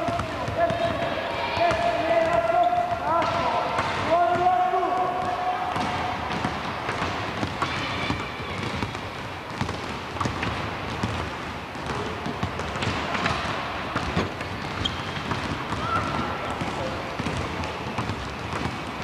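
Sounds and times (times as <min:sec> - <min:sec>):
balls bouncing on wooden floor: 0:00.0 - 0:19.0
sports hall noise: 0:00.0 - 0:19.0.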